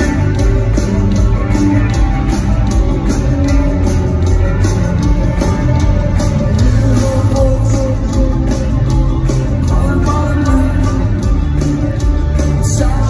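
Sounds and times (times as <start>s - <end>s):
bass guitar: 0.0s - 13.0s
drum kit: 0.0s - 13.0s
electric guitars: 0.0s - 13.0s.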